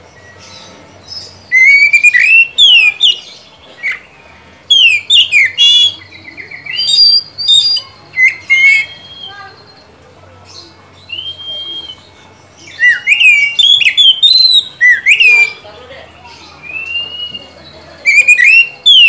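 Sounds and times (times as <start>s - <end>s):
bird singing whistled phrases: 0.1s - 4.1s, 4.7s - 9.9s, 11.0s - 15.6s, 16.3s - 19.0s.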